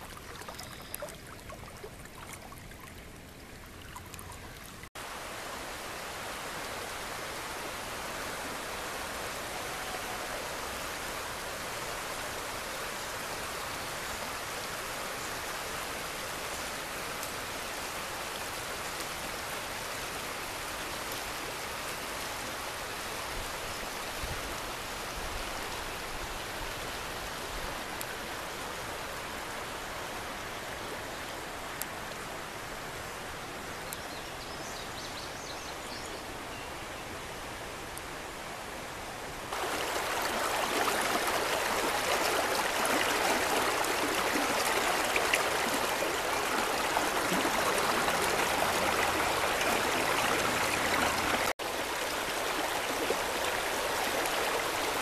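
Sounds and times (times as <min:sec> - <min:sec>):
river water rushing over riffle: 0:00.0 - 0:30.7, 0:37.4 - 0:55.0.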